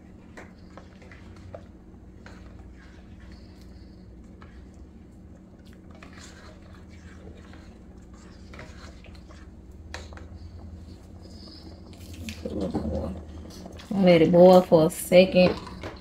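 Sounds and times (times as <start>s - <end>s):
spoon swishing in wet rice: 0.0s - 13.9s.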